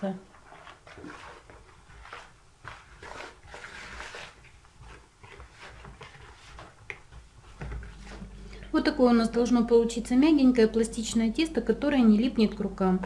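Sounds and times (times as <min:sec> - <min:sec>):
dough squishing in a bowl: 0:00.0 - 0:13.0.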